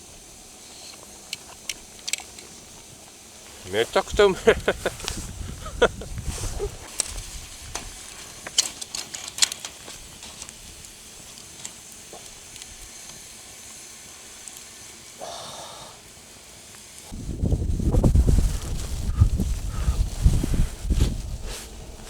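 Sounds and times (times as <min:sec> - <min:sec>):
campfire crackles: 0:00.0 - 0:22.0
campfire hissing: 0:00.0 - 0:22.0.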